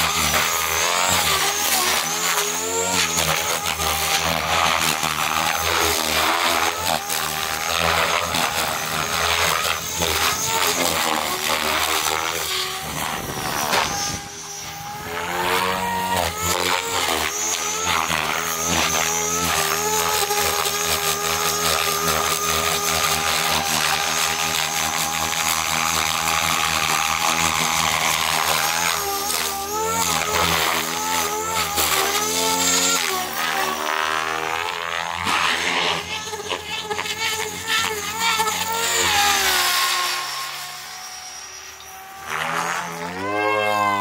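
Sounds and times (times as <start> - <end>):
electric motor whine: 0.0 - 44.0
rotor blades whooshing chop: 0.0 - 44.0.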